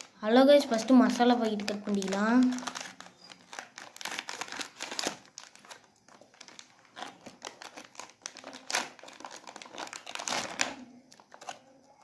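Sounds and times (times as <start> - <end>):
plastic packaging crinkling: 0.0 - 12.0
scissors cutting plastic: 1.0 - 12.0.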